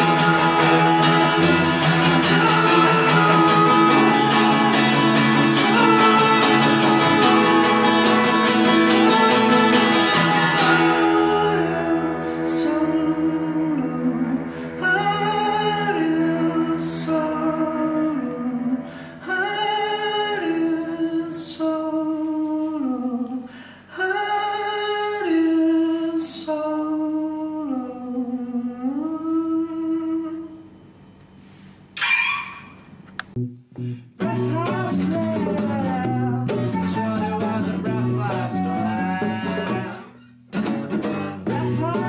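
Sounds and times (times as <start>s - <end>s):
acoustic guitar: 0.0s - 30.4s, 31.4s - 42.0s
person singing wordless melody: 0.0s - 30.7s, 34.2s - 40.2s, 41.4s - 42.0s.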